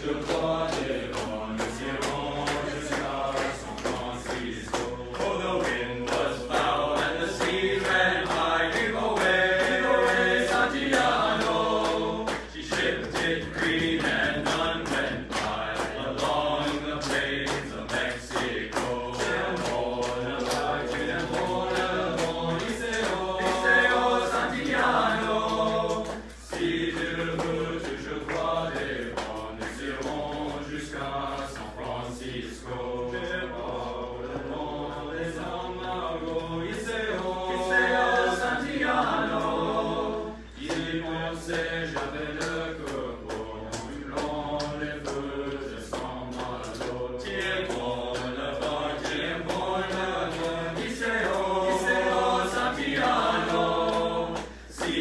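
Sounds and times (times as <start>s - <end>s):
male choir singing a cappella: 0.0s - 55.0s.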